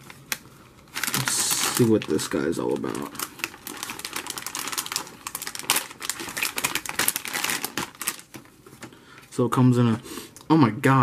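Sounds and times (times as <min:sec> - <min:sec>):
foil pouch crinkling: 0:00.0 - 0:08.9.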